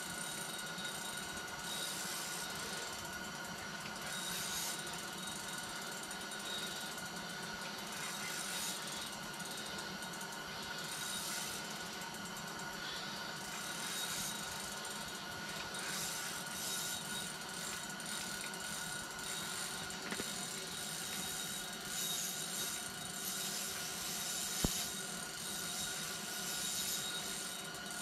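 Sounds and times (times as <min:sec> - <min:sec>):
fishing reel ratcheting whir: 0:00.0 - 0:28.0.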